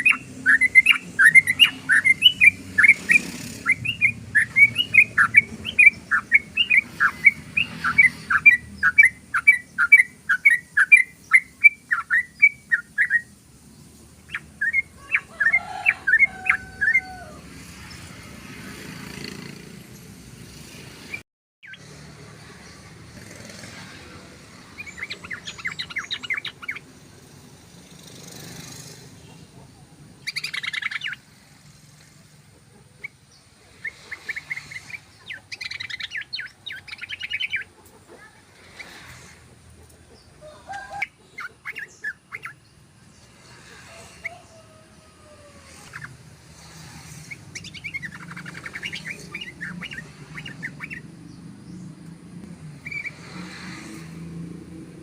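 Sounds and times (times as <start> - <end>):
bird chattering song: 0.0 - 18.2, 21.1 - 44.6, 45.6 - 52.1, 52.7 - 54.1.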